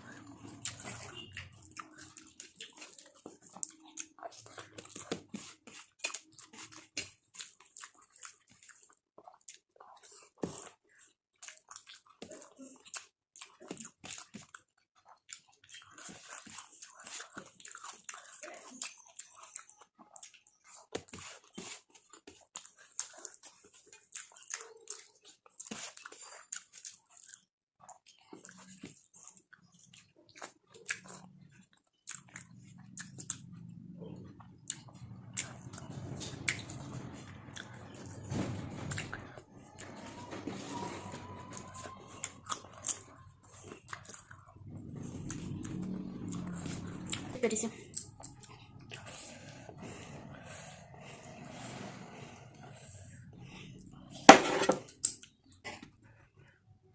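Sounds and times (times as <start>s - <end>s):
person chewing food: 0.0s - 51.6s, 52.3s - 56.8s.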